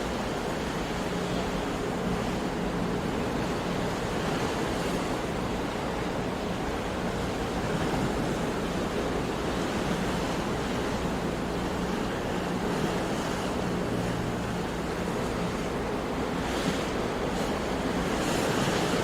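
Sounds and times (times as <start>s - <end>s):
sea waves washing on shore: 0.0s - 19.0s.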